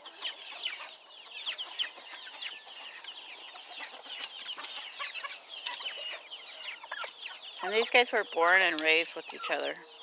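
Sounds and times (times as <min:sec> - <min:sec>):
chickens peeping and chirping: 0:00.0 - 0:10.0.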